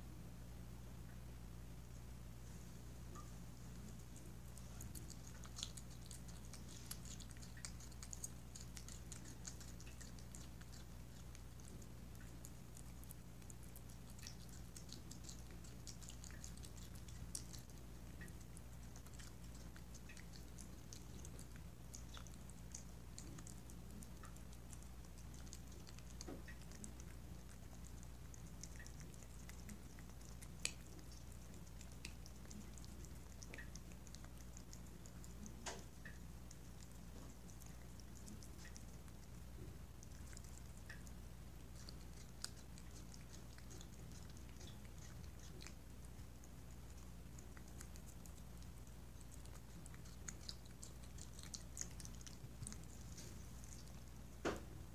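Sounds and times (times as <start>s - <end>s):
cat chewing and licking: 3.0s - 54.9s.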